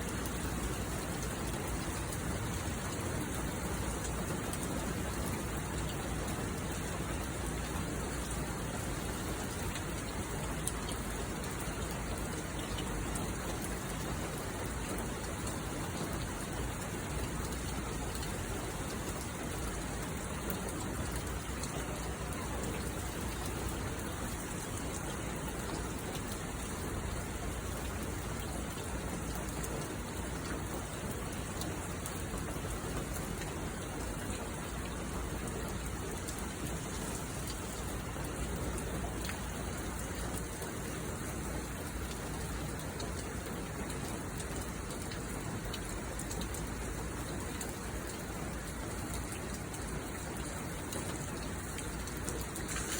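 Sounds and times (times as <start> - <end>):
sharp rain drop ticks: 0.0 - 52.9.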